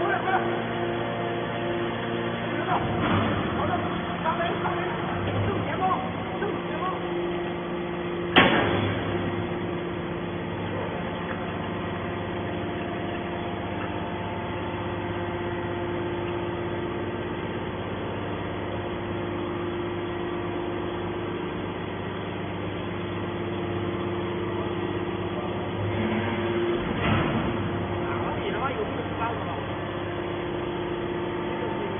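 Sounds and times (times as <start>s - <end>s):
baler power unit humming: 0.0s - 31.9s.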